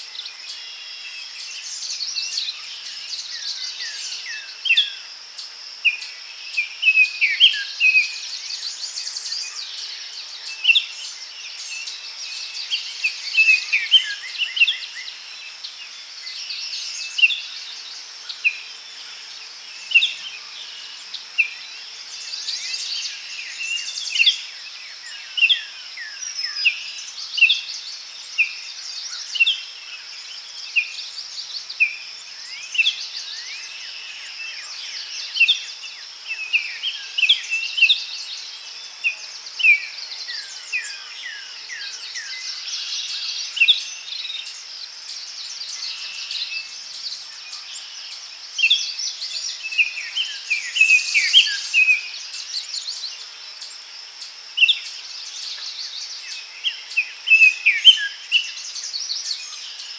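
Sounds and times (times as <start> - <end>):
songbirds chirping: 0.0 - 59.9
steady high-pitched hiss: 0.0 - 59.9.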